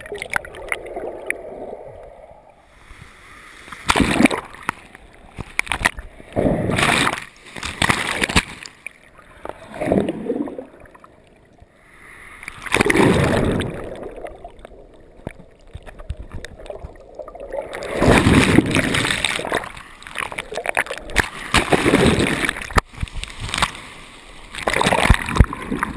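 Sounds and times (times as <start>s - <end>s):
surf rushing and splashing underwater: 0.0s - 25.9s.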